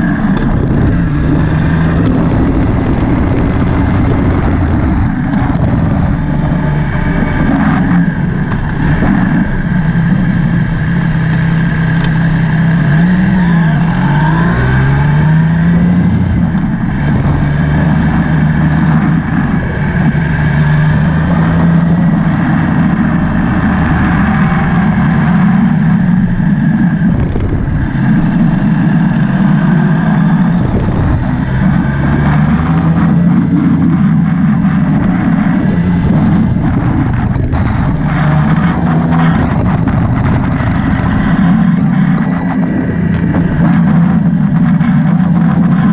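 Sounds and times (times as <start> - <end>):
motorcycle engine running: 0.0 - 45.9
steady rushing noise: 0.0 - 45.9.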